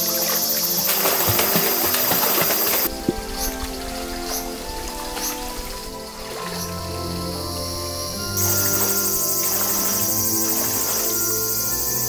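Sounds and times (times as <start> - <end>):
high-pitched insect chorus: 0.0 - 12.0
music with held notes: 0.0 - 12.0.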